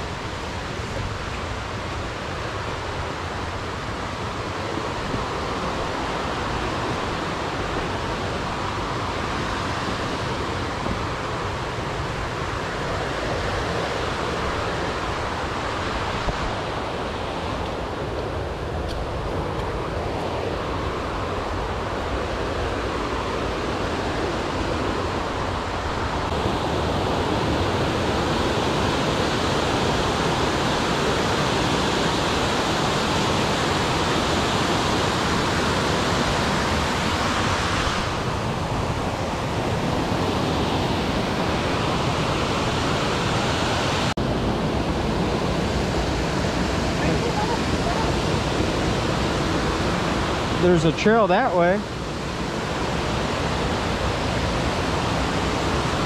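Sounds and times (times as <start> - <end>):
rushing water roar: 0.0 - 56.0.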